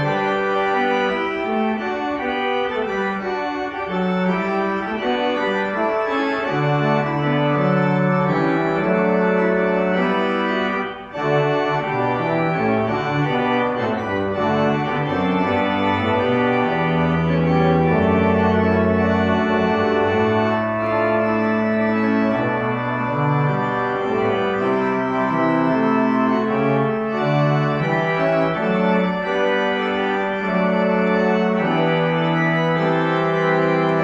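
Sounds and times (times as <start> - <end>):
organ chords: 0.0 - 34.0.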